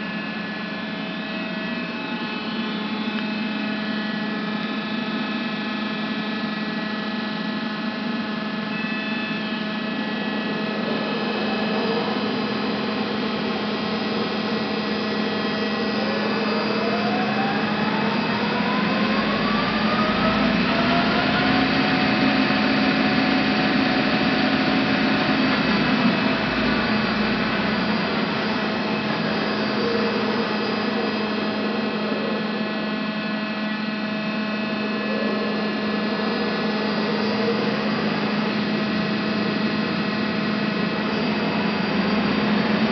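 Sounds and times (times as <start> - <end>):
spindle drive whine: 0.0 - 42.9
lathe humming: 7.8 - 42.9.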